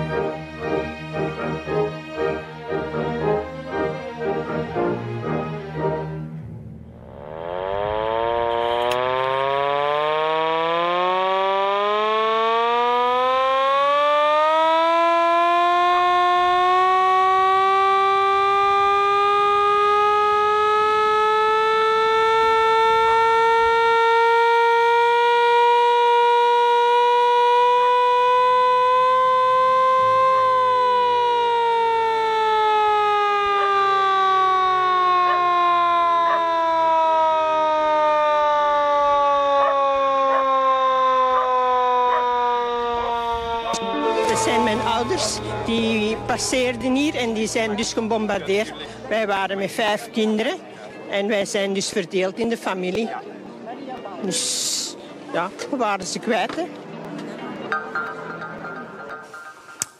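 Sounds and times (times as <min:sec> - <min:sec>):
air-raid siren wailing: 0:00.0 - 0:04.4, 0:05.2 - 0:49.6.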